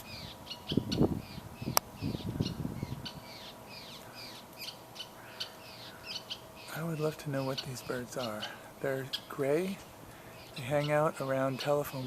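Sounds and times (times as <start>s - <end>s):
birds chattering: 0.0s - 12.0s.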